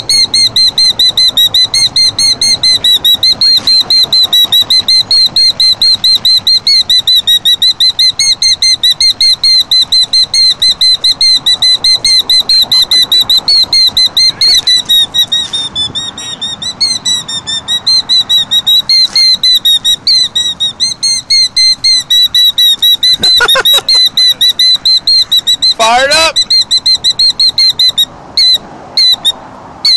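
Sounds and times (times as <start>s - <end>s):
bird shrill alarm calls: 0.0s - 29.9s.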